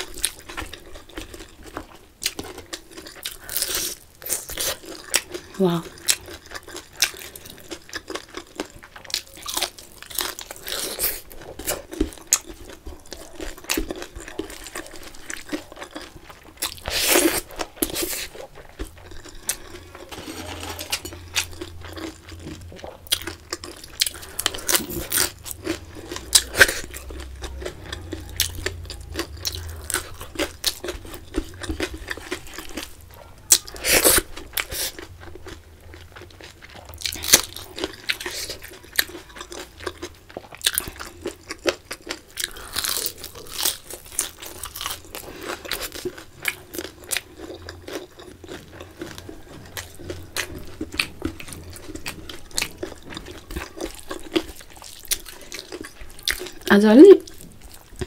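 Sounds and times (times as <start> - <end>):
person crunching fried food: 0.0 - 58.0.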